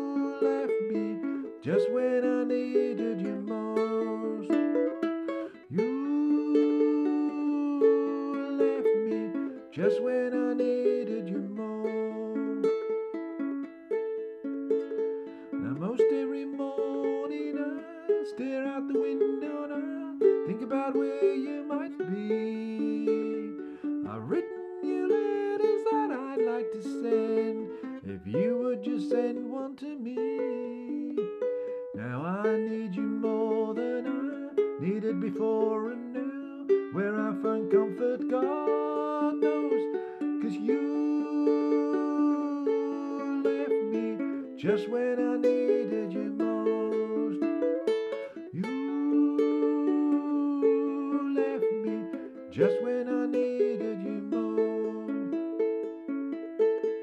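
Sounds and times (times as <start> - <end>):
man singing: 0.0 - 14.0, 14.9 - 57.0
ukulele strumming: 0.0 - 57.0.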